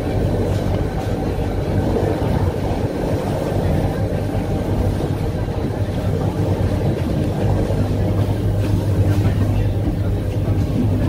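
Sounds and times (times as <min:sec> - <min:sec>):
electric railway car rumbling: 0:00.0 - 0:11.0.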